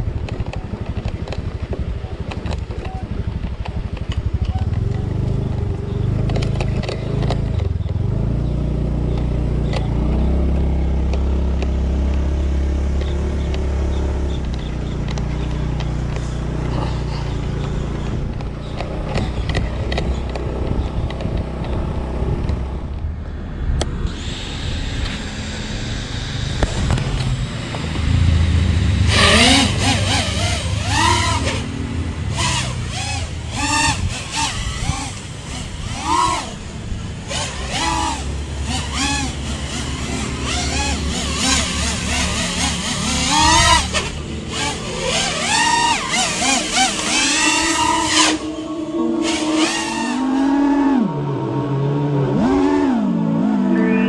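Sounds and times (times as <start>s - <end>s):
motor scooter engine running: 0.0s - 23.2s, 24.1s - 54.0s.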